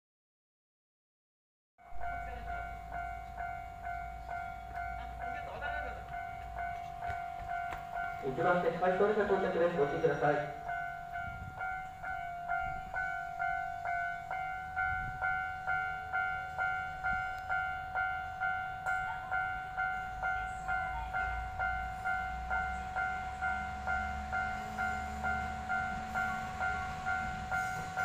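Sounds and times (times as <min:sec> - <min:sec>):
diesel railcar engine rumble: 0:01.8 - 0:28.0
electronic warning bell ringing: 0:01.8 - 0:28.0.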